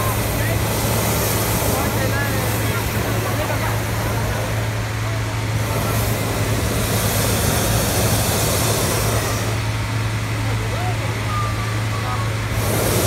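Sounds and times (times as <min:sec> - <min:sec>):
inflator fans engine drone: 0:00.0 - 0:13.0
propane burner blast: 0:00.0 - 0:13.0.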